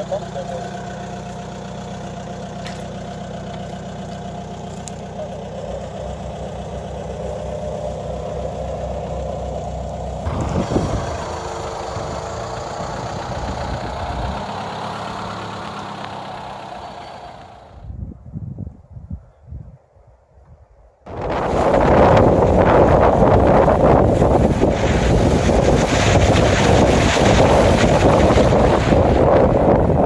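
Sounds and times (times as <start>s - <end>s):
vehicle driving through mud: 0.0s - 17.9s, 21.1s - 30.0s
engine running steadily: 0.0s - 18.0s, 21.1s - 30.0s.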